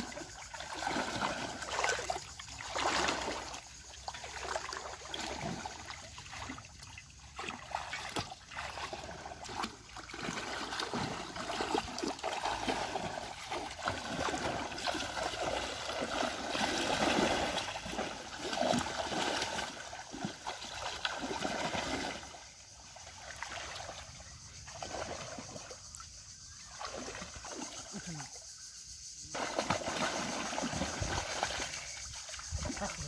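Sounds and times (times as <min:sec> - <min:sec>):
pond water splashing: 0:00.0 - 0:33.0.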